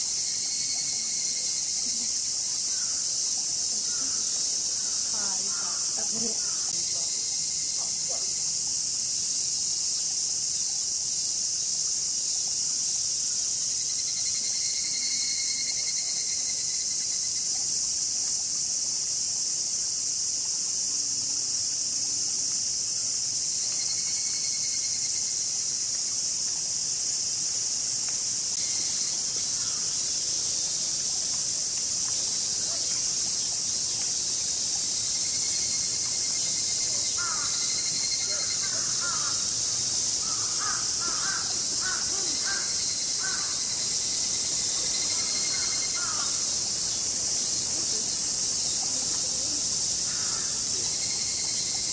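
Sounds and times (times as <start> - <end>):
cicadas chorus: 0.0 - 51.9
fainter lower insect call: 0.0 - 51.9.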